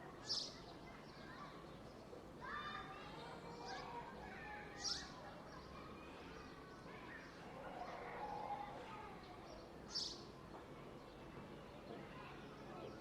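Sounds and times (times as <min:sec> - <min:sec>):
distant people talking: 0:00.0 - 0:13.0
outdoor background noise: 0:00.0 - 0:13.0.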